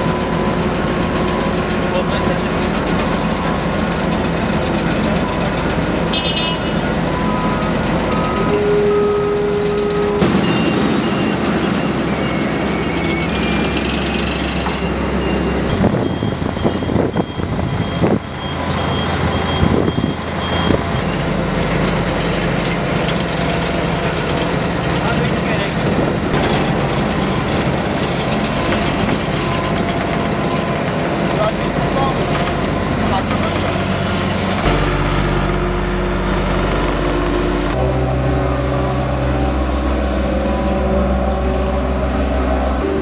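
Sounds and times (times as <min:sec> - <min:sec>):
diesel engines running: 0:00.0 - 0:43.0.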